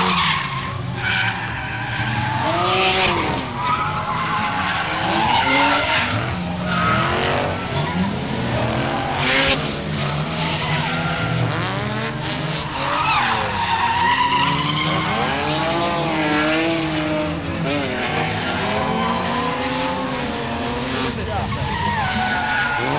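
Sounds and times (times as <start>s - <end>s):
car engine revving: 0.0s - 22.9s
tyres squealing on asphalt: 0.0s - 22.9s.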